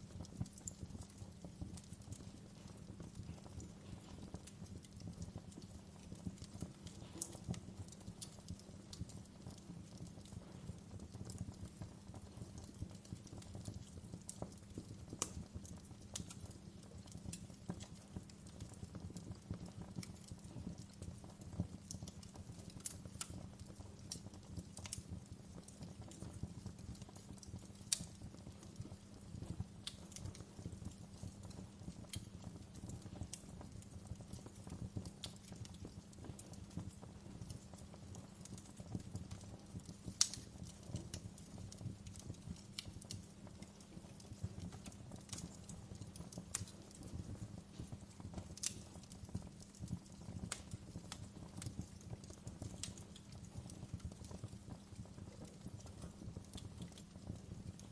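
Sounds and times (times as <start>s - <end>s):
flames rumbling: 0.0s - 57.9s
wood fire crackling: 0.0s - 57.9s.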